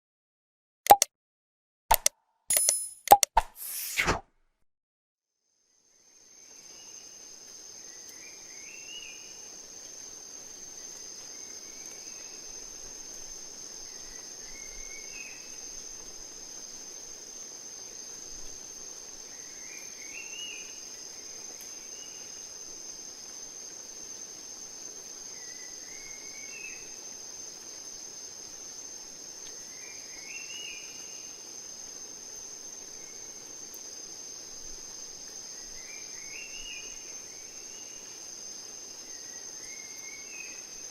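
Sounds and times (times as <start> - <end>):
high-pitched insect trill: 5.6 - 40.9.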